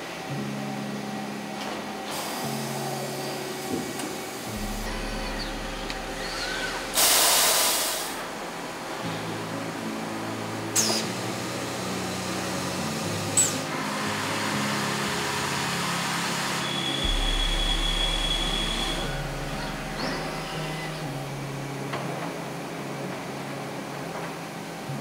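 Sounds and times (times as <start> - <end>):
high whine with deep rumble: 0.0 - 23.8
factory machinery humming: 0.0 - 25.0.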